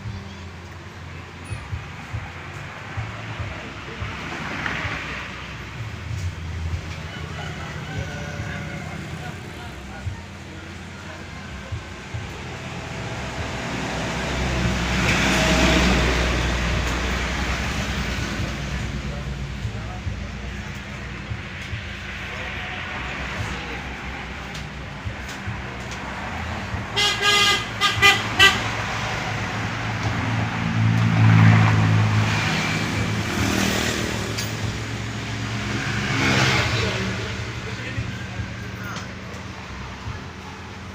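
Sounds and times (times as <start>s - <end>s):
traffic noise: 0.0s - 40.9s
vehicle passing by: 2.1s - 26.9s, 28.2s - 40.9s.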